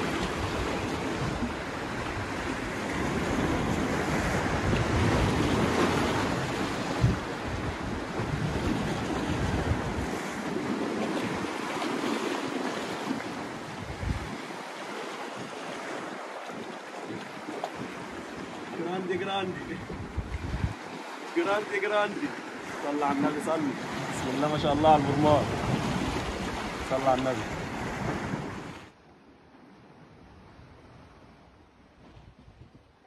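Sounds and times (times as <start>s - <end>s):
wind buffeting microphone: 0.0s - 21.3s, 22.3s - 28.9s, 30.2s - 33.0s
waves washing over rocks: 0.0s - 28.9s.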